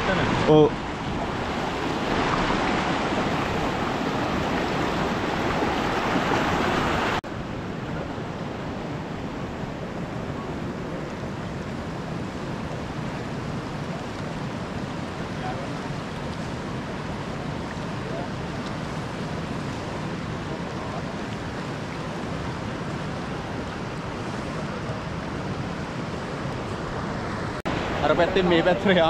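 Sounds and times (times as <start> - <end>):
fast-flowing water rushing: 0.0 - 29.0.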